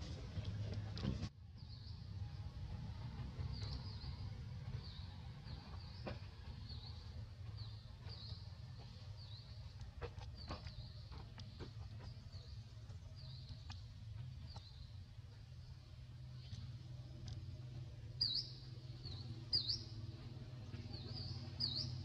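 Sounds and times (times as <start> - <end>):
small bird chirping: 3.4 - 22.0.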